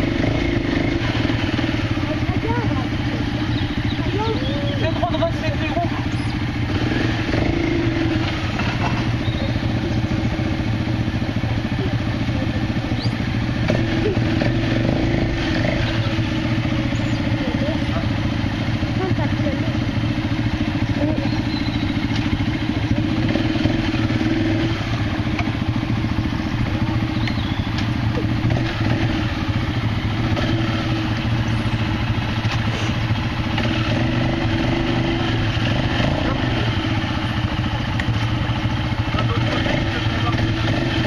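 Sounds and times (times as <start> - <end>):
quad engine running at low speed: 0.0 - 41.0.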